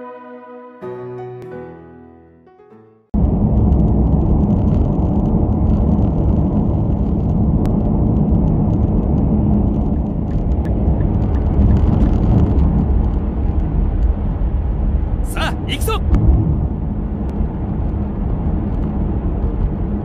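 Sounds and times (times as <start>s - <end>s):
tyre and engine rumble: 3.2s - 20.0s.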